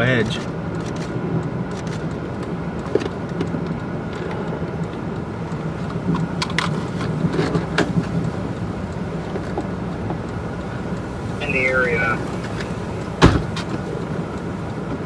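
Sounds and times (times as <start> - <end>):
vehicle engine hum inside cabin: 0.0 - 15.0.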